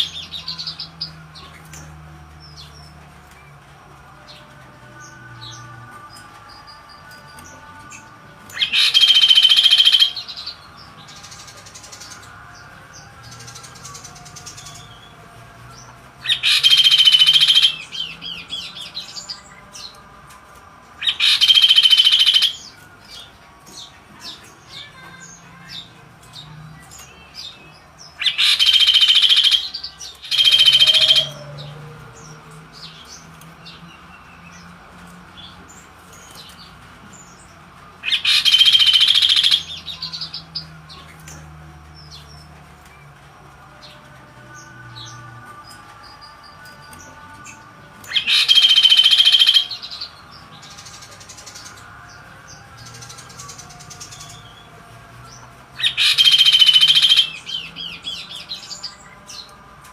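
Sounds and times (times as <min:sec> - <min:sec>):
bird singing harsh phrases: 0:06.4 - 0:20.0, 0:21.0 - 0:43.2, 0:43.8 - 0:59.6.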